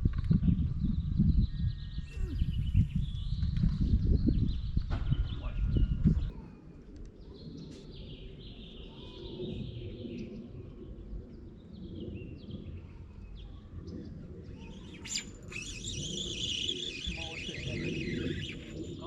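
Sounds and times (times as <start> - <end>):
small birds chirping: 0.0 - 6.5, 7.1 - 19.0.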